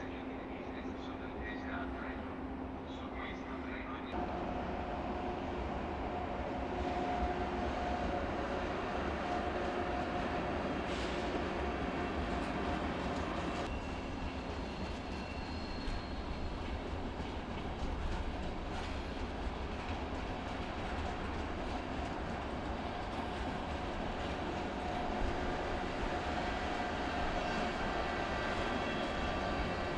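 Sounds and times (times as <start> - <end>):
train rumbling on rails: 0.0 - 29.9.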